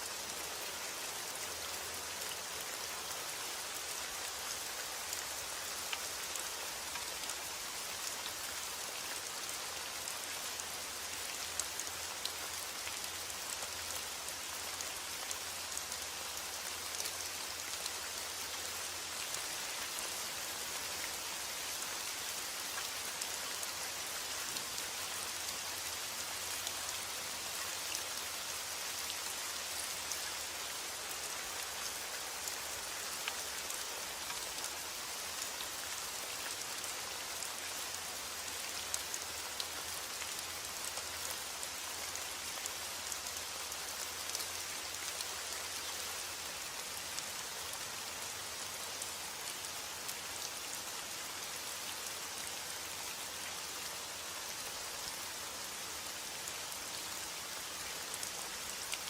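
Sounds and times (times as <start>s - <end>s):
rain falling: 0.0s - 59.0s
raindrops ticking on a surface: 0.1s - 50.8s.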